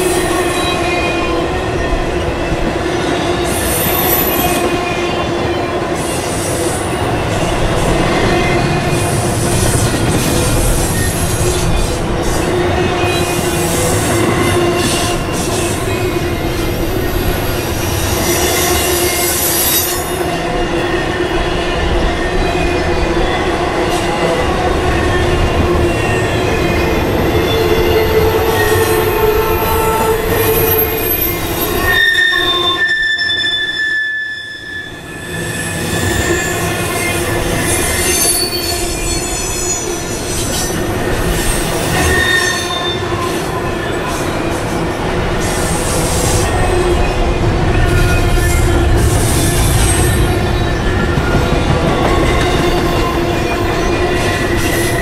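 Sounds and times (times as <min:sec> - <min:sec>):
train wheels rumbling on rail: 0:00.0 - 0:33.0, 0:34.9 - 0:55.0.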